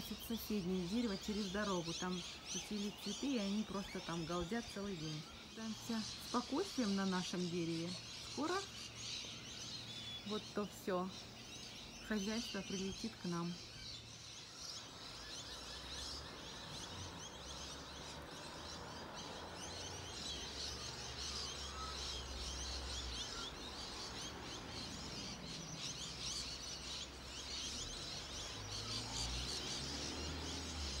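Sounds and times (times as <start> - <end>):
flock of lorikeets screeching: 0.0 - 31.0.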